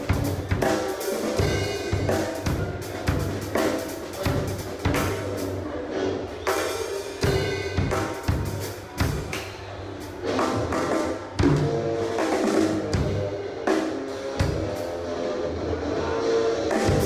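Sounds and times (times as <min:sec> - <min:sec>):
drum kit groove: 0:00.0 - 0:05.7, 0:06.4 - 0:17.0.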